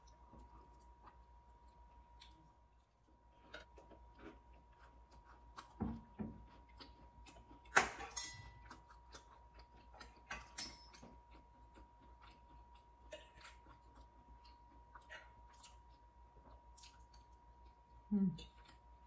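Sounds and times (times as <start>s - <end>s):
close chewing and mouth clicks: 0.0s - 8.0s, 8.6s - 19.0s.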